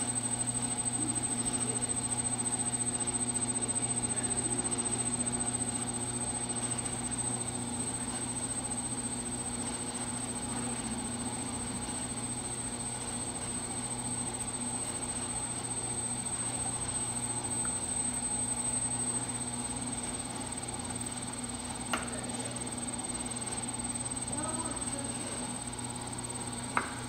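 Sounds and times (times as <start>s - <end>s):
potter's wheel humming: 0.0s - 27.0s.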